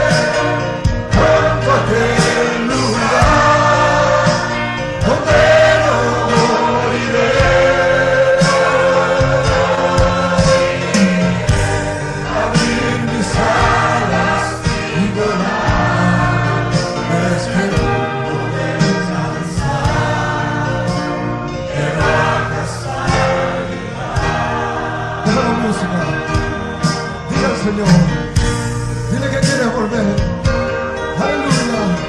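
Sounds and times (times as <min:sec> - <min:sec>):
choir singing a gospel hymn: 0:00.0 - 0:28.9
instrumental backing with beat: 0:00.0 - 0:32.0.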